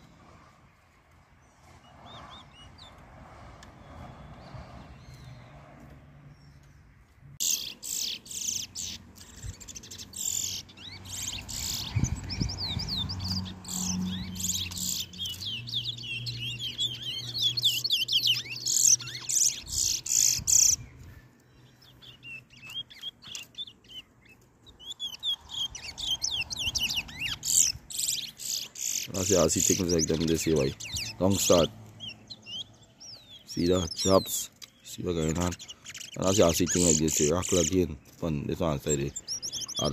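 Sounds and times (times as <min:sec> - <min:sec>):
finches twittering song: 0:00.0 - 0:39.9.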